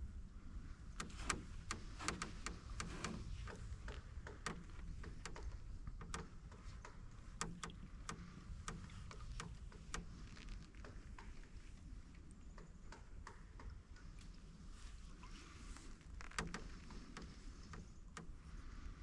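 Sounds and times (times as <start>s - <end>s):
low steady rumble: 0.0s - 19.0s
canoe creaking as paddled: 1.0s - 13.8s, 15.1s - 19.0s.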